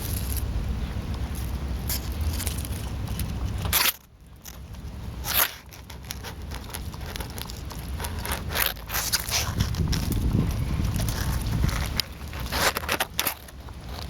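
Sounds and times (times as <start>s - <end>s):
crackling and scraping rustles: 0.0s - 14.0s
low steady rumble: 0.0s - 14.0s.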